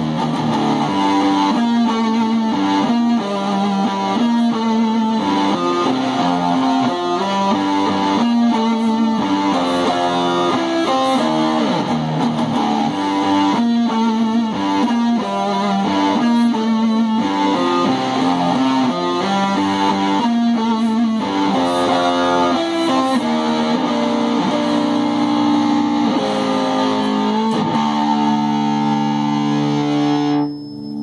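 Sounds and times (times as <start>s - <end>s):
distorted electric guitar riff: 0.0s - 31.0s.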